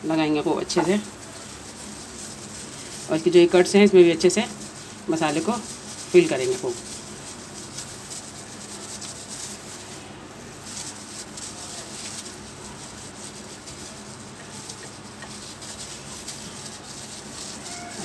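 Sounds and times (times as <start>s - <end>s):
hands rubbing wet marinade: 0.0s - 18.0s.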